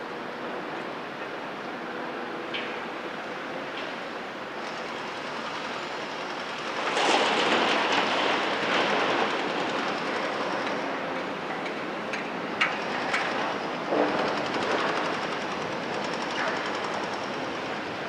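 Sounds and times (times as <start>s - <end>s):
excavator machinery running: 0.0s - 18.0s.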